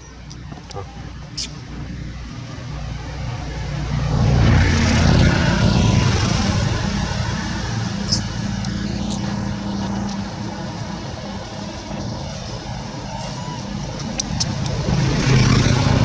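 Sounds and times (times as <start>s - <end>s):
motor engine passing by: 0.2s - 16.0s.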